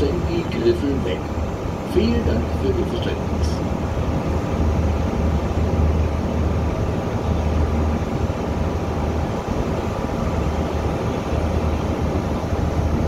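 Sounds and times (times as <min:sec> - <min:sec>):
ship engine drone: 0:00.0 - 0:13.0.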